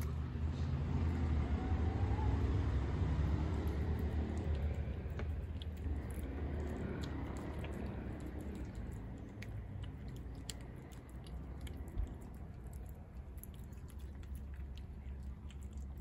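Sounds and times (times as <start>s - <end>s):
low steady rumble: 0.0s - 16.0s
cat chewing wet food: 2.8s - 16.0s.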